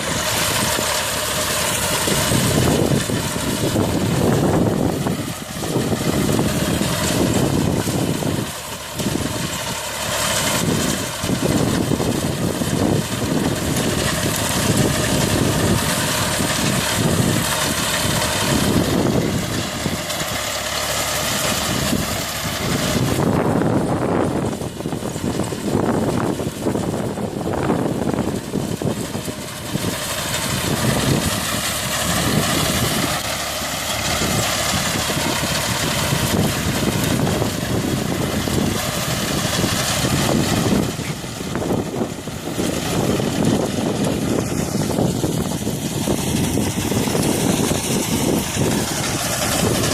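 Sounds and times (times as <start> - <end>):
dense rushing noise: 0.0 - 49.9
tractor engine running: 0.0 - 49.9.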